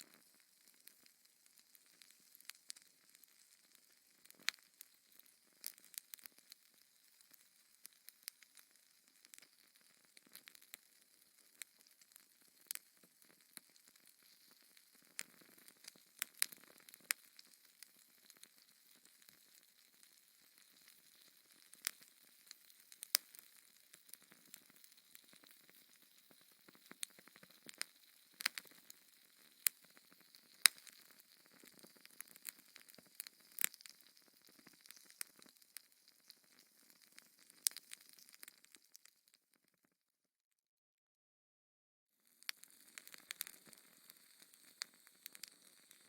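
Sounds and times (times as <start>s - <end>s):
faint fire hiss: 0.0s - 39.1s, 42.2s - 46.0s
wood fire crackling and popping: 0.0s - 39.6s, 42.3s - 46.0s.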